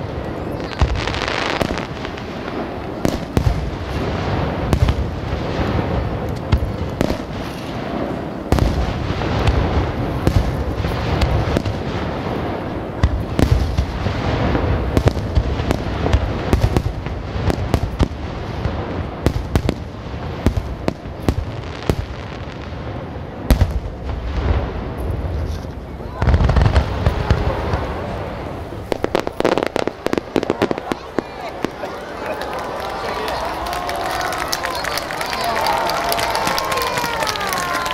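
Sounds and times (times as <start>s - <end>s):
fireworks booming and cracking: 0.0s - 37.9s.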